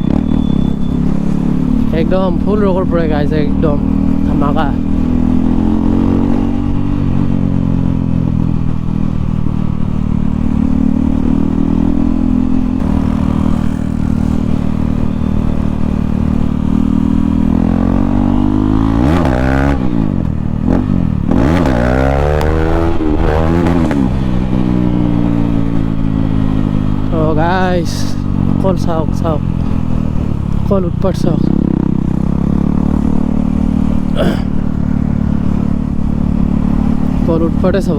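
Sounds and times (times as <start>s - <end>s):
unmuffled motorcycle engine revving: 0.0s - 37.9s.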